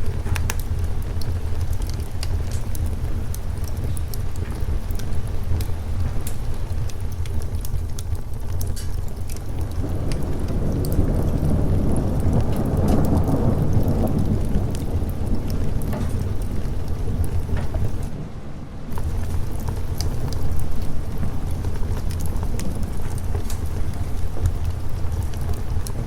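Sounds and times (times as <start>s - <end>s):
constant low rumble: 0.0s - 26.0s
steady rain: 0.0s - 26.0s
thunder rolling: 0.0s - 26.0s.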